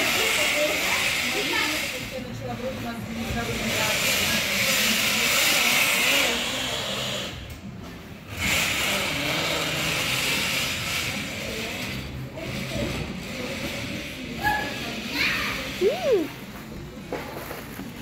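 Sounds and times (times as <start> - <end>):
zip-line trolley whirring on metal rail: 0.0 - 18.0.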